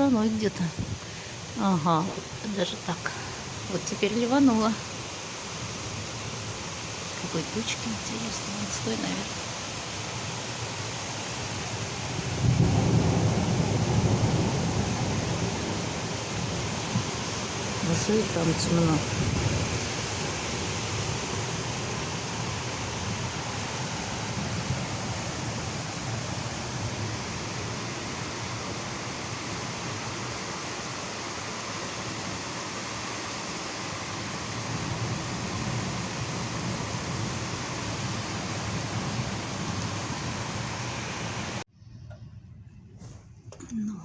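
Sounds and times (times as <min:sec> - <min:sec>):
heavy rain pouring: 0:00.0 - 0:41.7.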